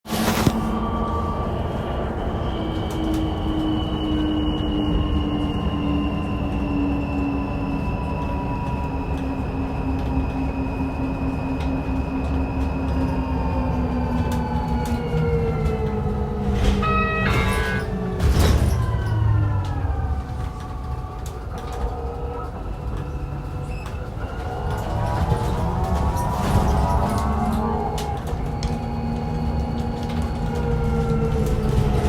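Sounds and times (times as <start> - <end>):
electric bus drive whining: 0.2 - 32.0.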